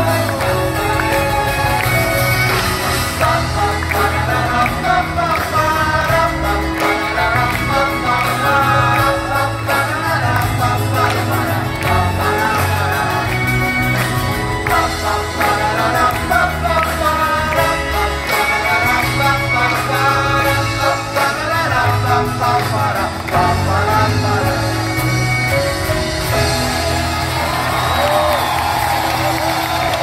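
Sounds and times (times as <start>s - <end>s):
person singing: 0.0s - 25.5s
pop-rock band with strings: 0.0s - 30.0s.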